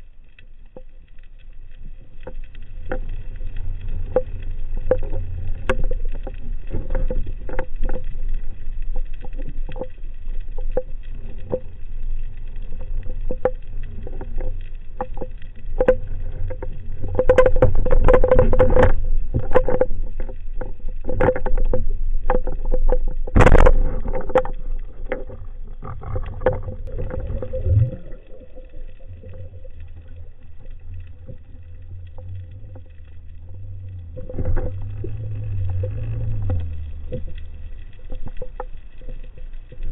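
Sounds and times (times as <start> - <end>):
low underwater rumble: 0.0 - 39.9
sharp underwater clicks: 0.1 - 39.9.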